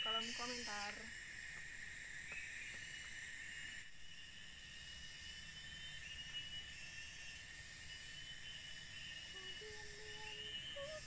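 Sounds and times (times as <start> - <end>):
insects chorus: 0.0 - 11.0
hiss: 0.4 - 11.0.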